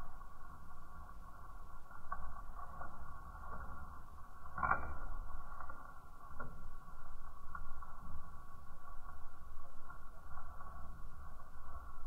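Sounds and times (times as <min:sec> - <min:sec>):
fire crackling: 0:00.0 - 0:12.0
low rumble of flames: 0:00.0 - 0:12.0.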